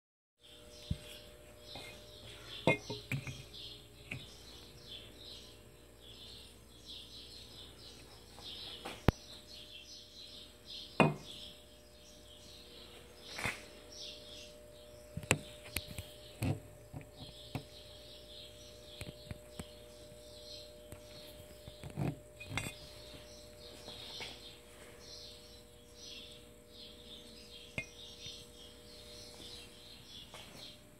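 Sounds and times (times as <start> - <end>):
faint steady hum: 0.4 - 30.9.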